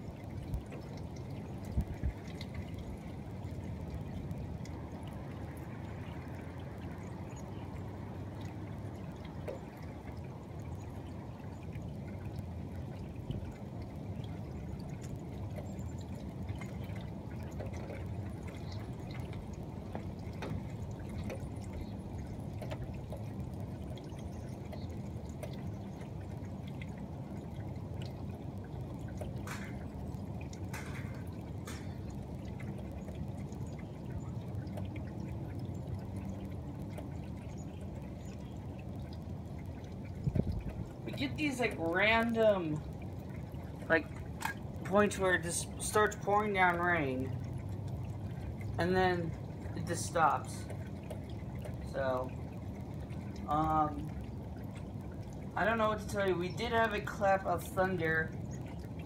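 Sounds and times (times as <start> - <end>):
light ticks of drops: 0.0 - 59.0.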